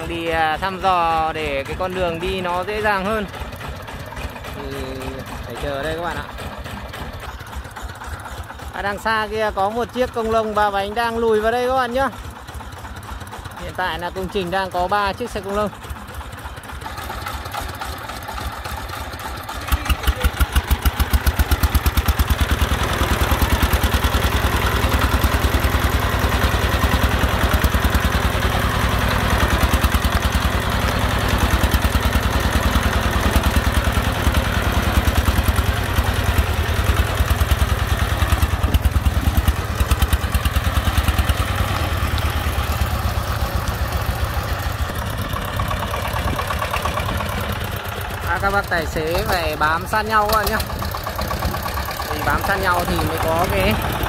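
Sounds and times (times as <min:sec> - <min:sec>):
diesel truck engine chugging: 0:00.0 - 0:54.0.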